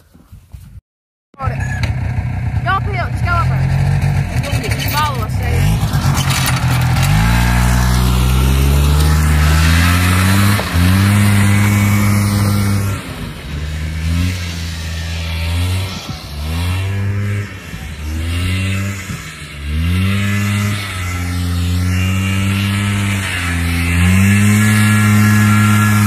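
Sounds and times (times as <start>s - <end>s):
four-wheeler engine revving: 1.4s - 26.0s.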